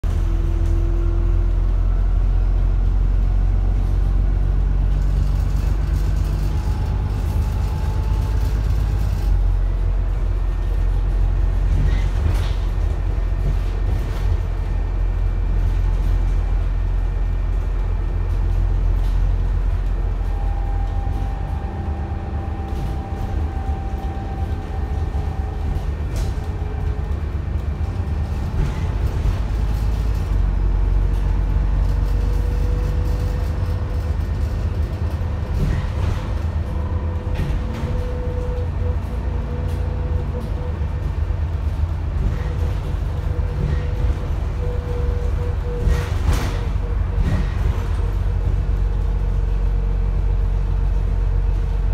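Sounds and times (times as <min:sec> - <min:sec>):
diesel engine rumble: 0:00.0 - 0:51.9.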